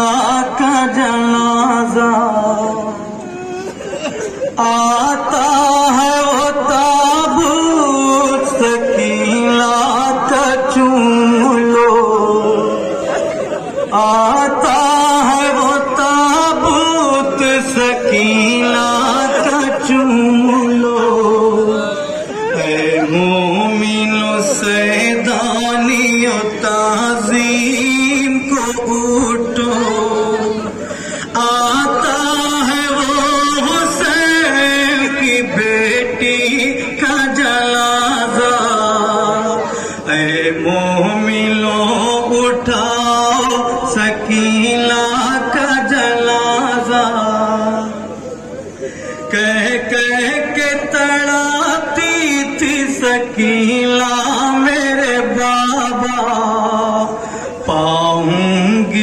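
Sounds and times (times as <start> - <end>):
person chanting mourning lament: 0.0 - 59.0.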